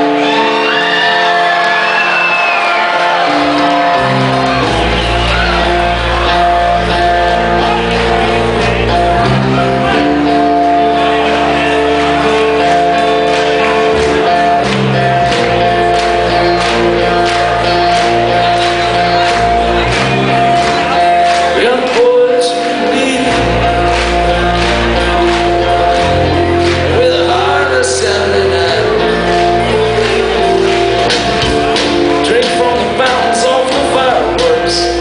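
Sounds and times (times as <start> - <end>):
crowd whooping and shouting: 0.0 - 35.0
loud guitar chords ringing: 0.0 - 35.0
rock band playing live: 0.0 - 35.0.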